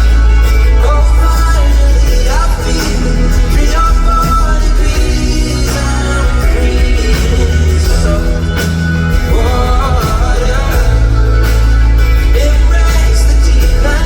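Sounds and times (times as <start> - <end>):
loud live concert music: 0.0 - 14.0
wordless singing: 0.0 - 14.0.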